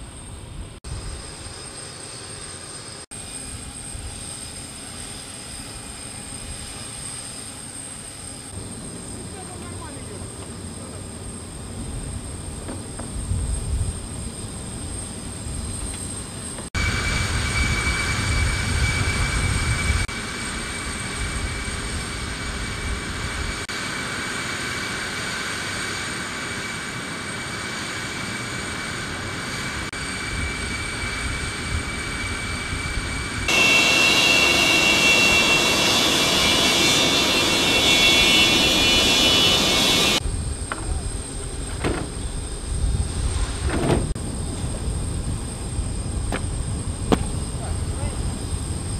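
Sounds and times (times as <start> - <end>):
jet turbine whine: 0.0 - 48.9.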